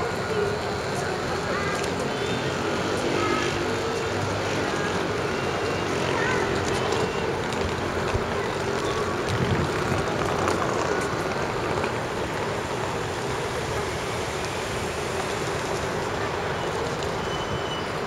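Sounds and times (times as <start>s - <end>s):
traffic hiss and rumble: 0.0s - 18.0s.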